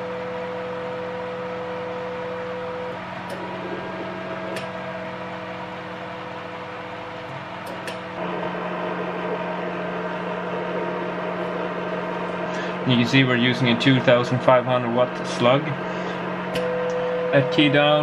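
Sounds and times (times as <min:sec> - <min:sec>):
radio transmitter hum: 0:02.4 - 0:18.0.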